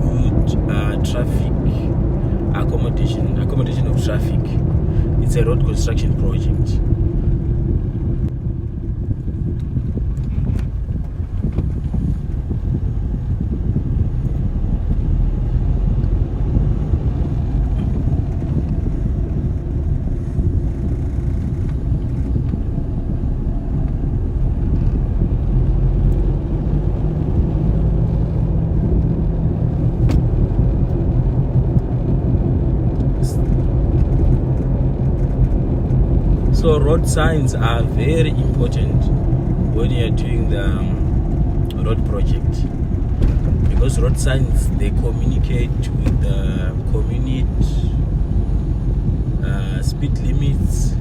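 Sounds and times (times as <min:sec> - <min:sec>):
motor vehicle engine rumble: 0:00.0 - 0:51.0.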